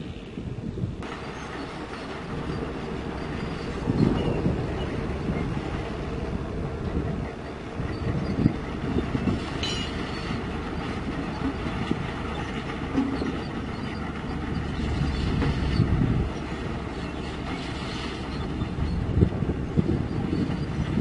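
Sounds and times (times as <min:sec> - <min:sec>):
bulldozer diesel engine running: 0:00.0 - 0:21.0
steel tracks clanking over rocks: 0:01.0 - 0:21.0.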